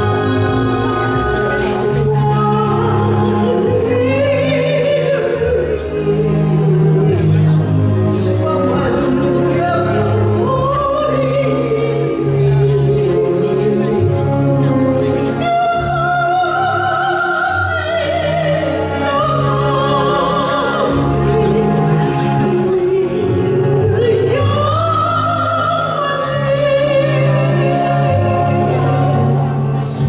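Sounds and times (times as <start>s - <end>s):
instrumental accompaniment: 0.0s - 30.0s
operatic soprano singing: 0.0s - 30.0s.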